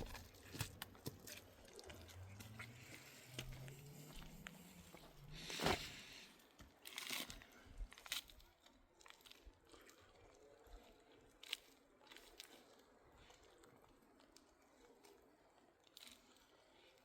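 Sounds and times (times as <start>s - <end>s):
faint clicks and rustles: 0.0s - 17.0s.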